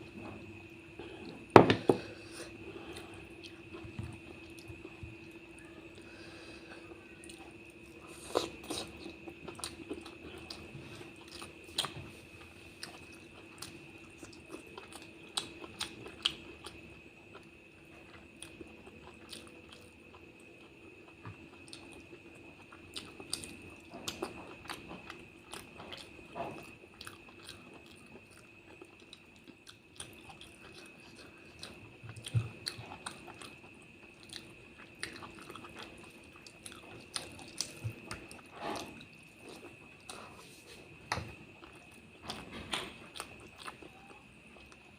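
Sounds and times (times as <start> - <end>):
faint steady whine: 0.0 - 44.9
wet chewing: 7.0 - 44.8.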